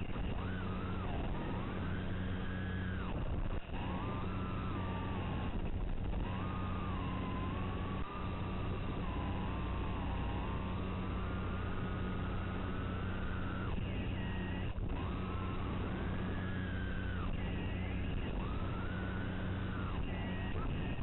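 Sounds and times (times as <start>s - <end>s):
quadcopter motors whining: 0.0s - 21.0s
steady low hum: 0.0s - 21.0s.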